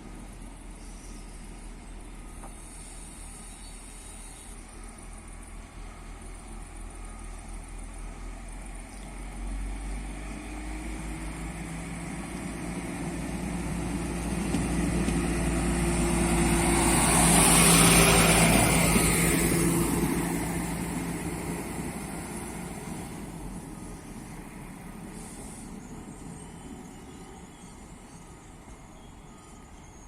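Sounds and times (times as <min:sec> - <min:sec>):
hiss of wheels on rail: 0:00.0 - 0:08.4, 0:09.1 - 0:29.2
diesel train engine drone: 0:00.0 - 0:30.0.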